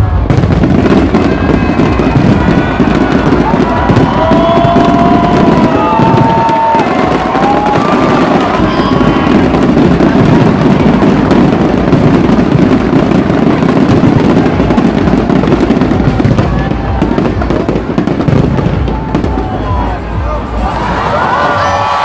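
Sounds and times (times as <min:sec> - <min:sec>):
fireworks whistling: 0:00.0 - 0:20.0
fireworks crackling and booming: 0:00.0 - 0:21.1.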